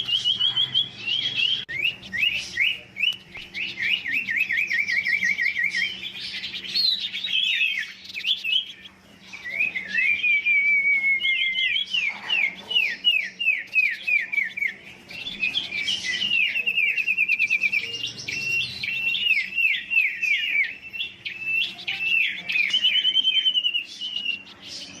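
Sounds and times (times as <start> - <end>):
songbird whistling: 0.0 - 25.0.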